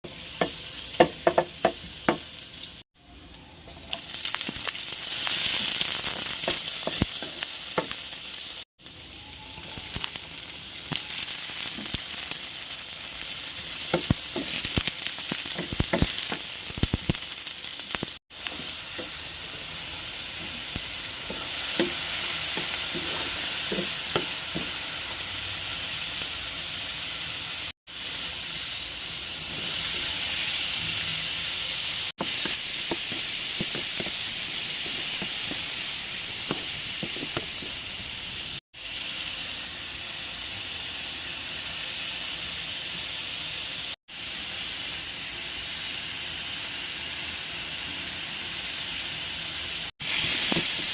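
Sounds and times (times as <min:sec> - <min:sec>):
food sizzling in a pan: 0:00.0 - 0:50.9.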